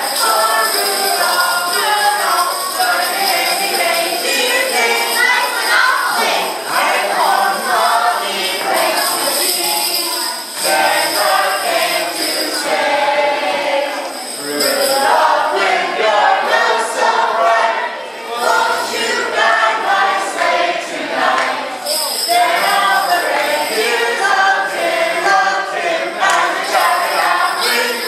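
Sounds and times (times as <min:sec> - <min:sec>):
jingle bells shaking: 0:00.0 - 0:17.3, 0:18.3 - 0:28.0
group singing a christmas song: 0:00.0 - 0:28.0.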